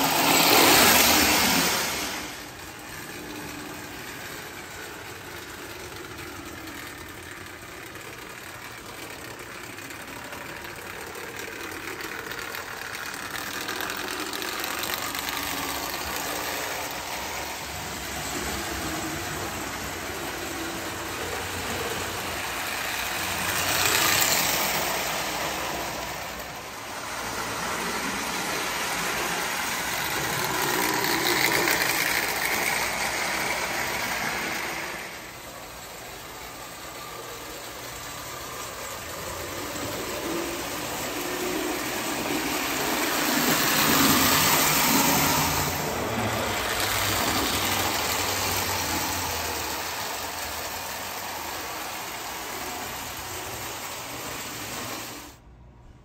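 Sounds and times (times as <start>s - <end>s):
wheels clattering over tin rails: 0.0s - 55.3s
toy train motor whirring: 0.0s - 55.4s.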